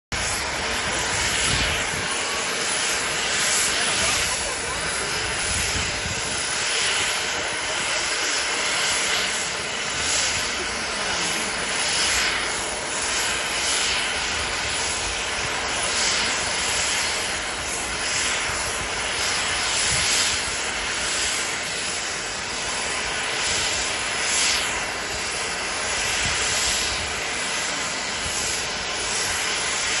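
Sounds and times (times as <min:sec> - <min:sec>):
helicopter turbine and rotor noise: 0:00.1 - 0:30.0.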